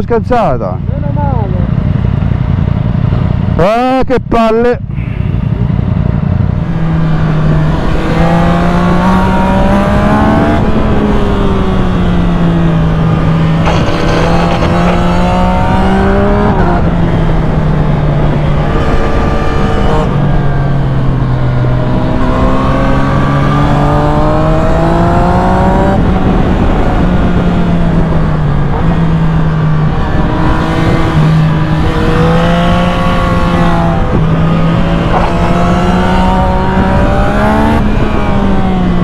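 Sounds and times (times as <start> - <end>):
motorcycle engine revving: 0.6 - 4.0, 5.0 - 39.0
wind noise: 4.8 - 39.0.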